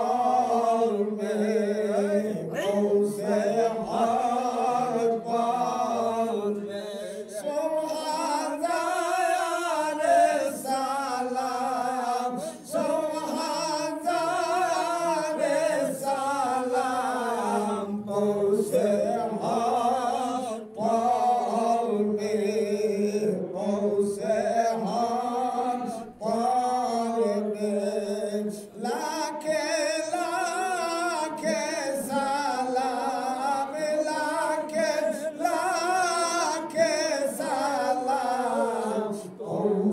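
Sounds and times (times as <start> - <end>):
man chanting: 0.0 - 39.9.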